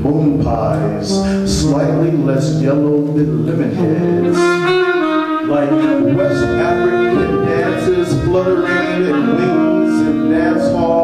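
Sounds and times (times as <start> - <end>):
saxophones playing jazz: 0.0 - 11.0.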